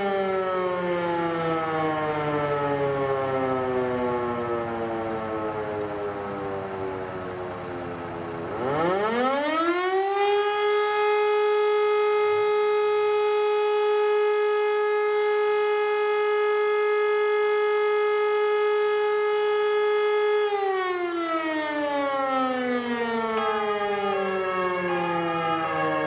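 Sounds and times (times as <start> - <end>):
electric motor siren: 0.0 - 26.0.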